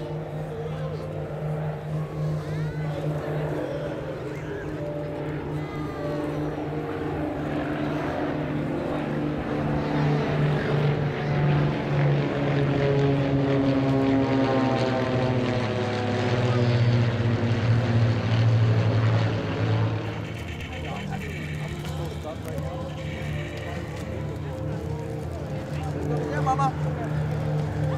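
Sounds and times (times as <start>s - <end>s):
propeller planes droning past: 0.0s - 27.9s.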